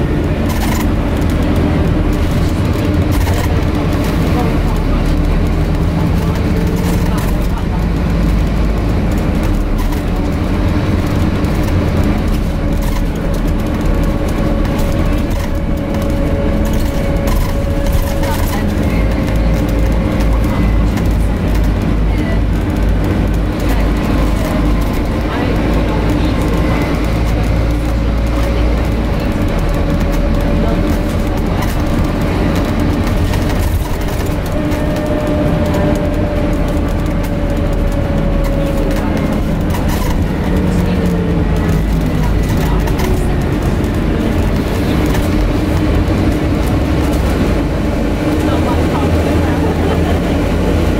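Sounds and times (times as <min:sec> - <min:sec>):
bus engine and road rumble: 0:00.0 - 0:50.9
constant whine: 0:00.0 - 0:50.9.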